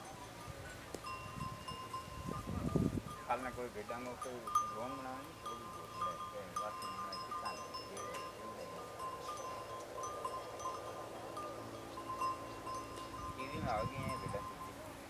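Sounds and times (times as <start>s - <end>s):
small metal bells clinking: 0.0s - 15.0s.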